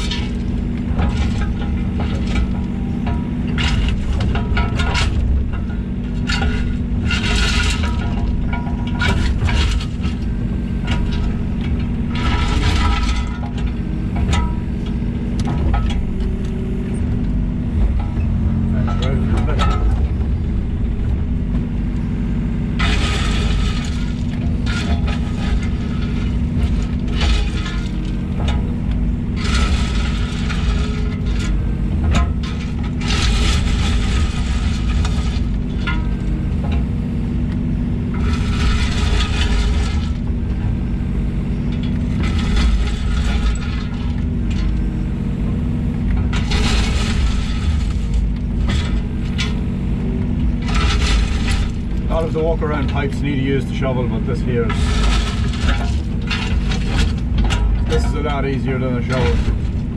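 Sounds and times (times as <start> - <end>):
excavator diesel engine running: 0.0 - 59.9
gravel scraping: 0.0 - 59.9.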